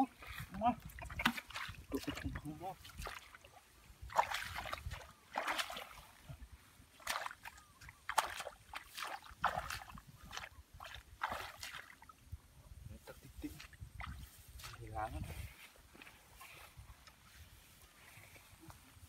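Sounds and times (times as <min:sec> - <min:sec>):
splashing in shallow muddy water: 0:00.0 - 0:12.4, 0:13.1 - 0:17.2.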